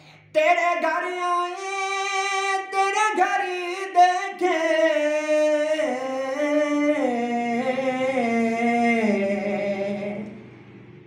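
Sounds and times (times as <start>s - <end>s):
man singing unaccompanied hymn: 0.2s - 10.4s.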